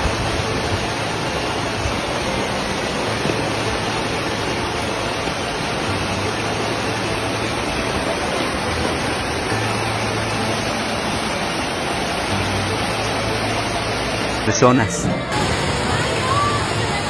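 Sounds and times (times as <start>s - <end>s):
floodwater rushing down a street: 0.0s - 17.0s.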